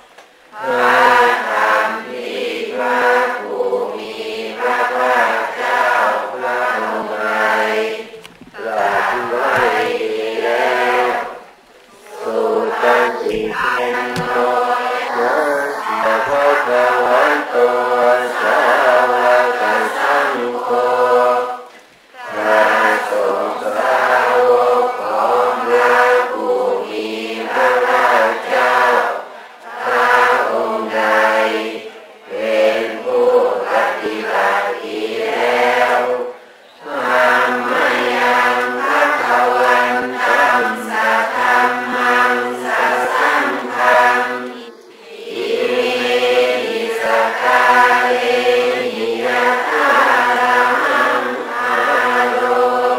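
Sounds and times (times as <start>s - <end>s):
group of voices chanting: 0.5s - 52.9s.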